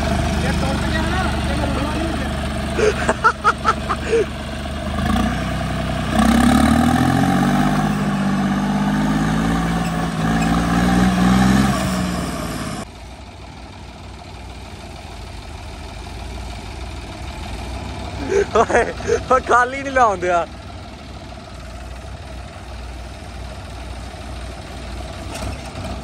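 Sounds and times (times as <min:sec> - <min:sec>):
tractor engine revving: 0:00.0 - 0:26.0.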